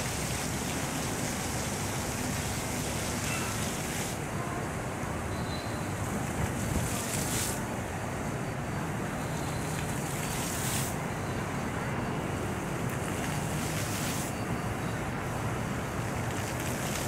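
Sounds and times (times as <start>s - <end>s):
fountain water jets splashing: 0.0s - 17.0s
low traffic hum: 0.0s - 17.0s.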